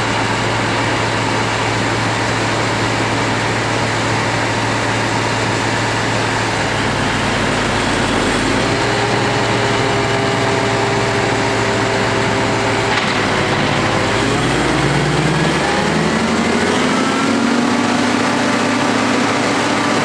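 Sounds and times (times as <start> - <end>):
harvester and tractor engines: 0.0 - 20.0
higher engine drone: 0.0 - 20.0.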